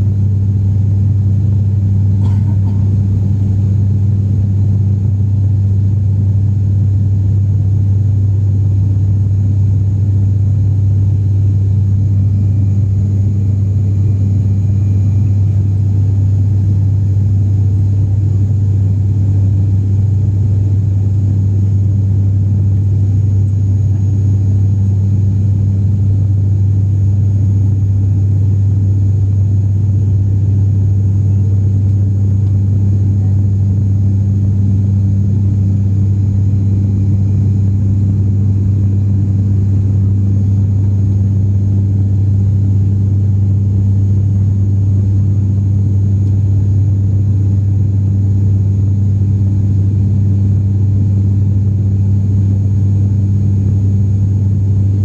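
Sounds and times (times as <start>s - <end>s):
airliner engines droning: 0.0s - 55.0s.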